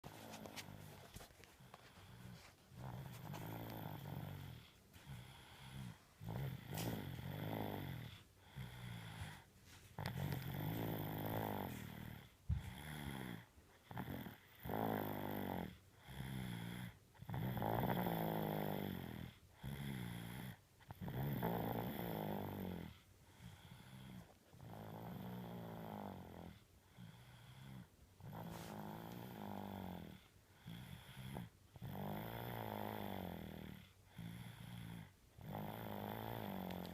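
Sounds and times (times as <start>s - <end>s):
buzzing snoring: 2.0s - 36.9s.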